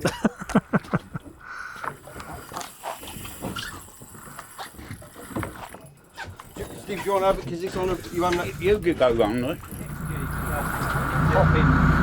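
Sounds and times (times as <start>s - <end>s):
knocks and clatters on boat: 0.0s - 11.4s.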